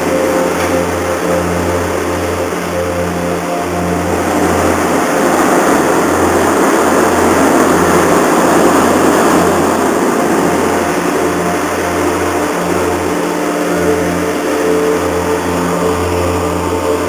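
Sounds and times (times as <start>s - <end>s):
rushing noise: 0.0s - 17.0s
ship engines droning: 0.0s - 17.0s.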